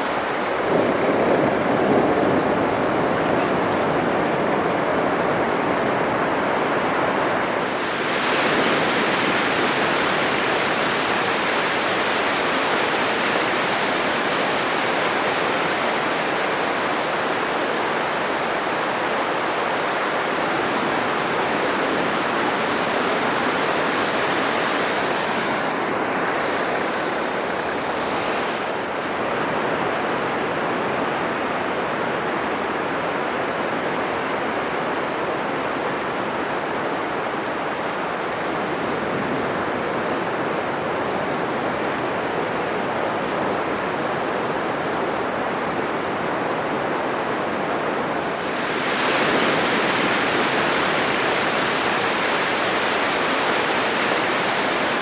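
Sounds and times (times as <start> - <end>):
surf breaking on sandy beach: 0.0 - 30.9, 38.1 - 55.0.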